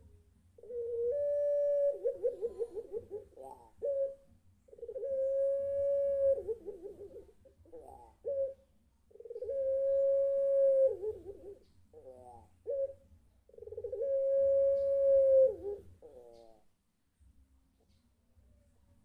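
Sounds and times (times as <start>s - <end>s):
dove calling: 0.0s - 16.7s.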